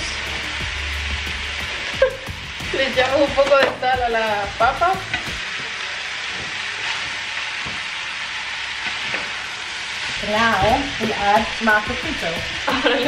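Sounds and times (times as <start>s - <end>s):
vegetables and meat sizzling in a pan: 0.0s - 13.0s.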